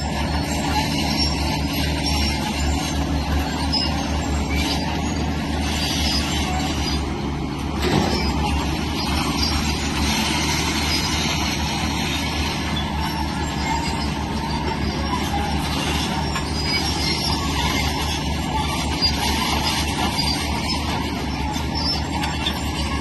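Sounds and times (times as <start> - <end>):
heavy machinery diesel engine: 0.0 - 23.0.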